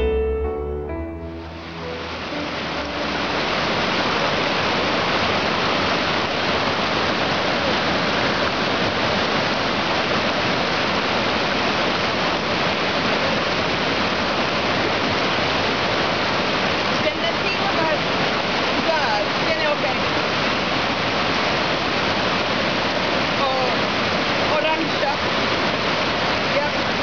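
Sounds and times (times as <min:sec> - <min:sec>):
stream rushing over stones: 0:01.2 - 0:27.0.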